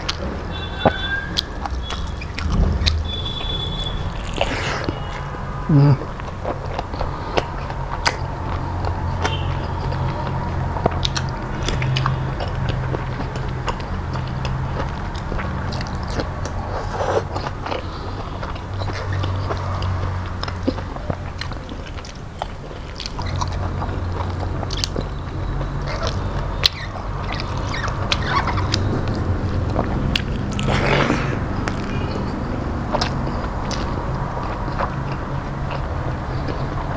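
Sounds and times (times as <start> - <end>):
person chewing food: 0.0 - 36.9
wet mouth clicks and smacks: 1.3 - 5.2, 6.2 - 36.8.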